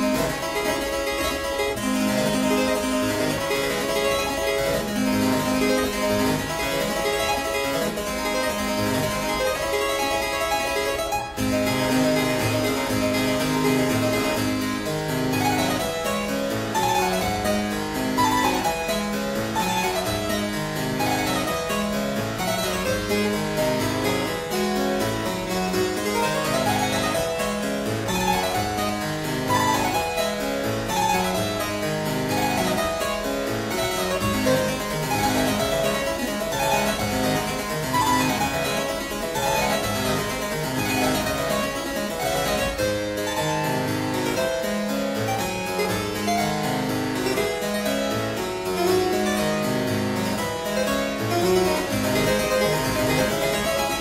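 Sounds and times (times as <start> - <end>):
solo harpsichord playing: 0.0 - 54.0.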